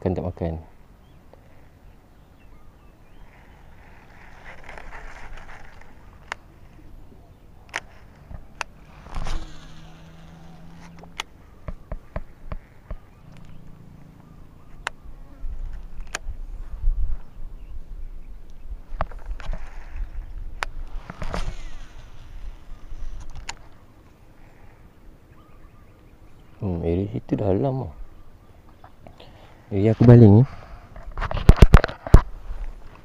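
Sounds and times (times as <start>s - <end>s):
low steady hum: 0.0s - 29.8s.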